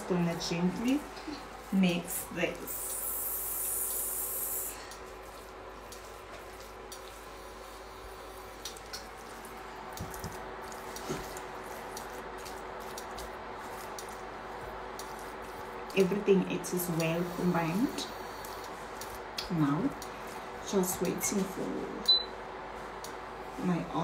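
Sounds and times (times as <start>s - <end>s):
spatula stirring wet chicken: 0.0s - 21.7s.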